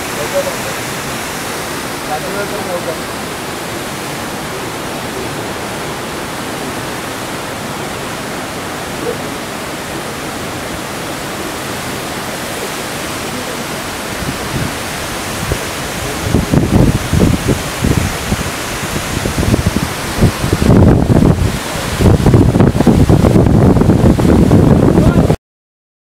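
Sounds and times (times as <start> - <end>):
waterfall rushing: 0.0 - 25.4.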